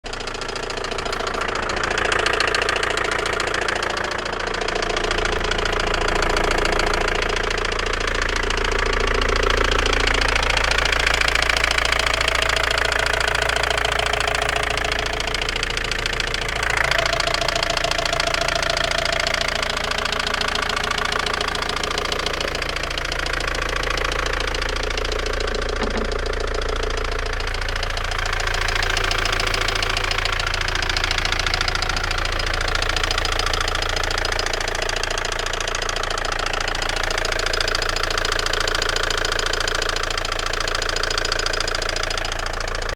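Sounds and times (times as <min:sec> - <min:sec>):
car engine knocking: 0:00.0 - 0:42.9.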